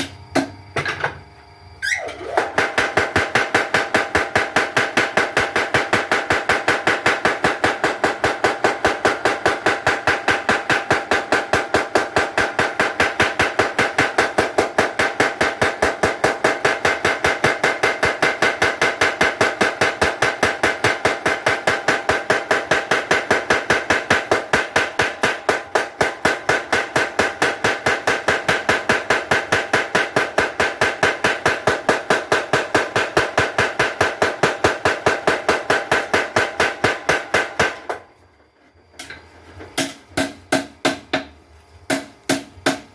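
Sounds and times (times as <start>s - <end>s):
power hammer striking steel: 2.1s - 38.0s, 41.9s - 42.9s.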